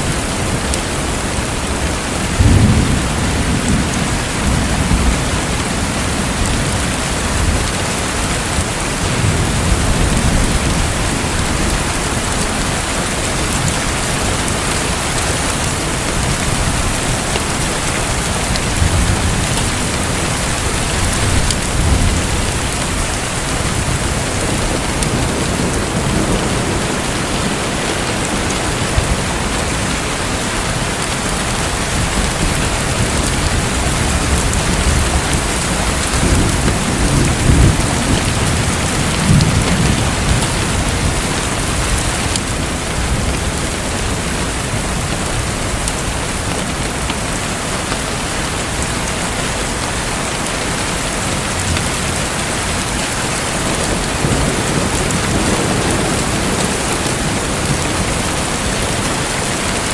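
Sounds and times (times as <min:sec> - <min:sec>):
rush and patter of water: 0:00.0 - 0:59.9.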